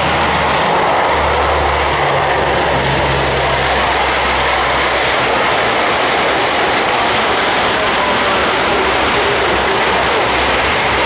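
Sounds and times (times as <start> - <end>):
low propeller hum: 0.0 - 11.0
turboprop engines roaring: 0.0 - 11.0.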